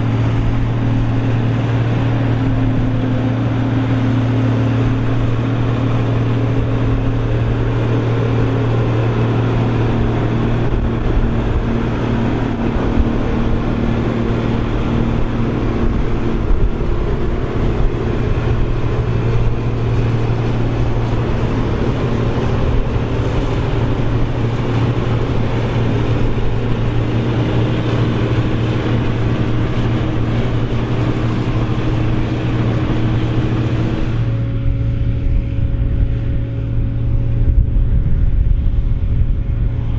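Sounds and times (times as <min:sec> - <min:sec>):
harvester engine droning: 0:00.0 - 0:39.9
machine rushing noise: 0:00.0 - 0:39.9.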